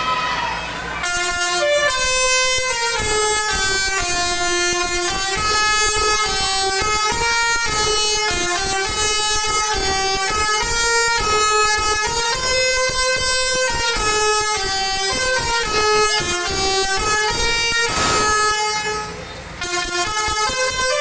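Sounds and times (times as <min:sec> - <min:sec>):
multi-tone bus horn melody: 0:00.0 - 0:21.0.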